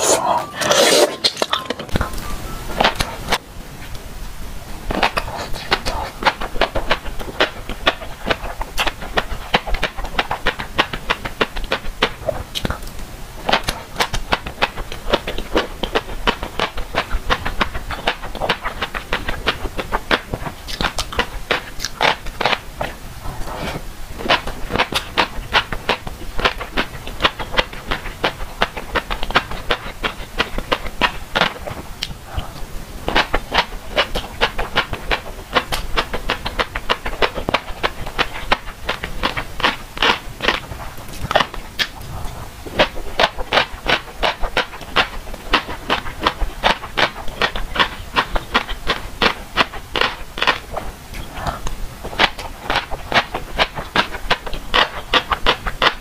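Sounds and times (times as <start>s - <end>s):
chewing fish roe popping: 0.0s - 4.0s, 4.8s - 56.0s.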